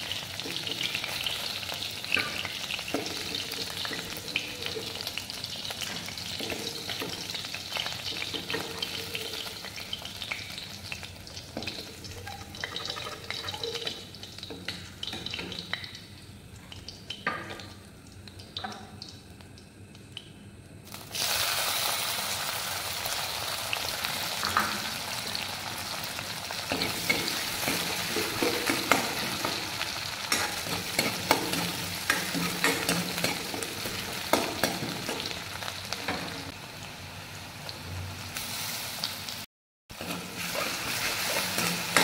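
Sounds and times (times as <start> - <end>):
hot oil sizzling: 0.0 - 42.0.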